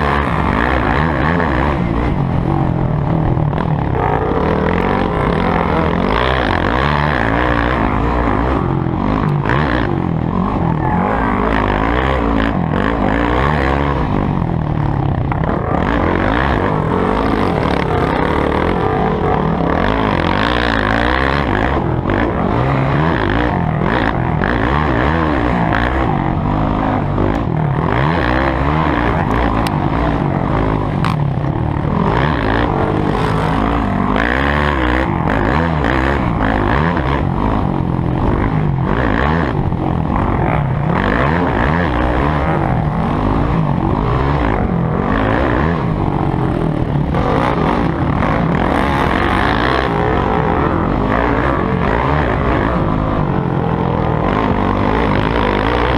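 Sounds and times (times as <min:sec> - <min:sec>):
motocross engines revving: 0:00.0 - 0:55.9.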